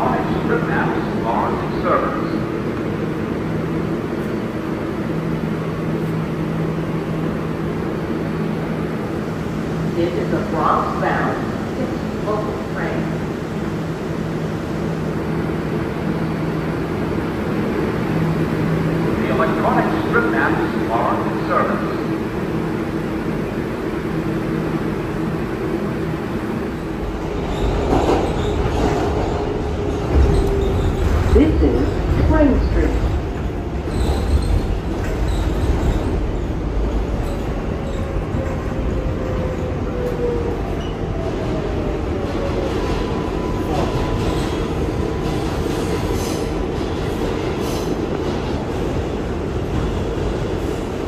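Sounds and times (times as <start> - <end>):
subway car rumble: 0.0 - 51.0.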